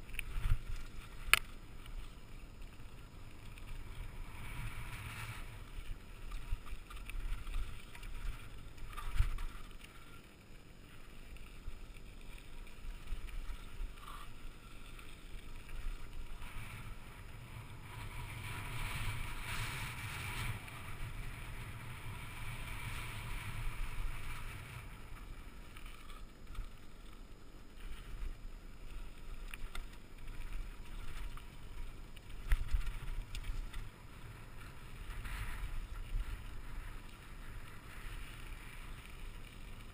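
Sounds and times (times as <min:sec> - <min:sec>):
wind and tyre noise: 0:00.0 - 0:39.9.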